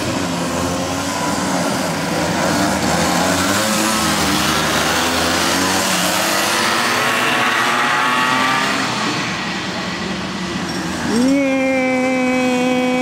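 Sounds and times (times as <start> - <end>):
racing karts passing at high revs: 0.0 - 11.3.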